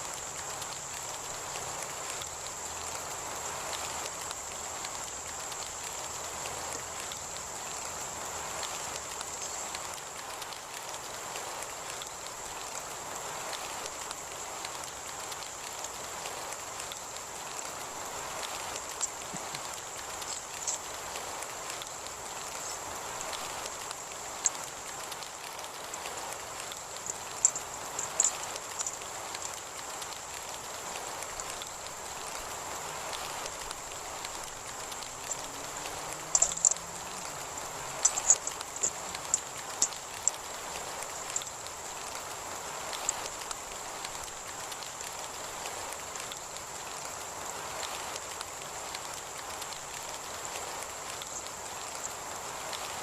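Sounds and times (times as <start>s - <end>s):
heavy rain falling: 0.0s - 53.0s
raindrops ticking on surface: 0.0s - 53.0s.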